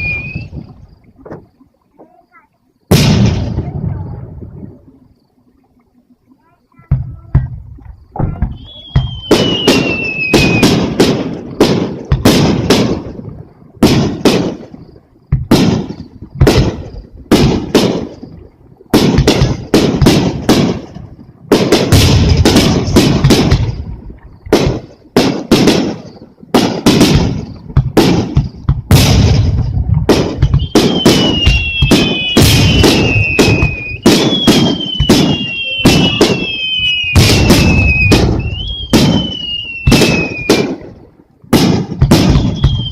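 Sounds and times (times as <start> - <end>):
whistling fireworks: 0.0 - 5.2, 6.4 - 42.9
firework shells bursting: 6.8 - 42.9.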